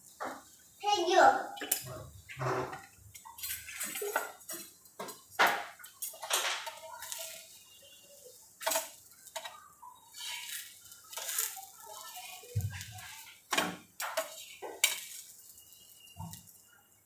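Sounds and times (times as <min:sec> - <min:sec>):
metal spatula scraping a pan: 0:01.6 - 0:16.6.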